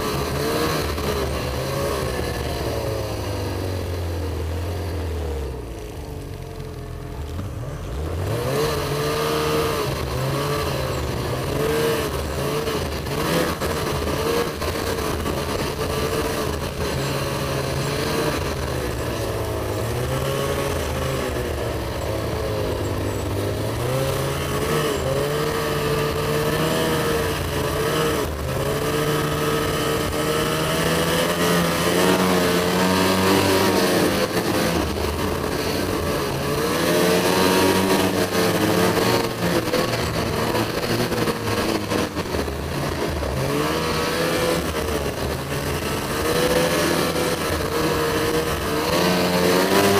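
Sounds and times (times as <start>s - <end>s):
snowmobile engine revving: 0.0s - 49.9s
snowmobile track noise: 0.0s - 49.9s.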